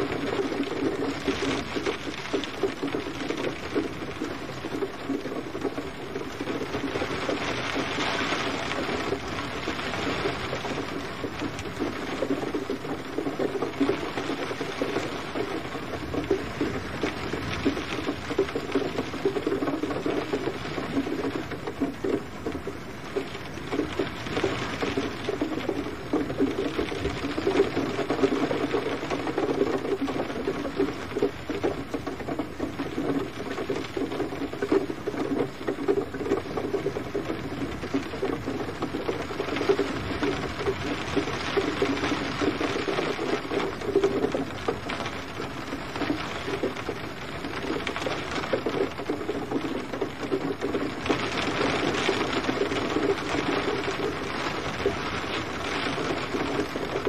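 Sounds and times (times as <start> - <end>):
gentle rain patter: 0.0 - 57.0.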